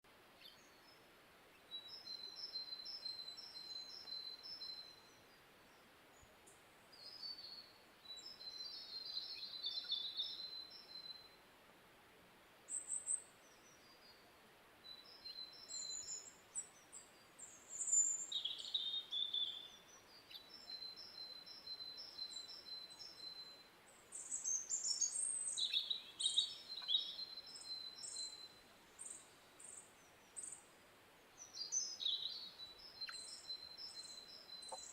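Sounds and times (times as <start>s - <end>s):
faint background hiss: 0.0s - 34.9s
songbirds chirping and trilling: 0.0s - 34.9s.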